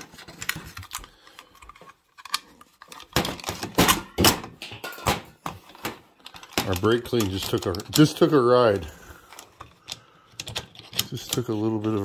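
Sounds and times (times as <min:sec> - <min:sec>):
metal parts clicking and rattling: 0:00.0 - 0:12.0.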